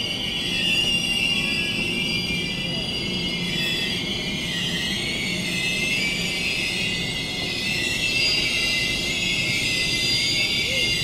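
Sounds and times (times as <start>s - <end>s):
moving train rumble: 0.0s - 11.0s
train wheels squealing on rails: 0.0s - 11.0s.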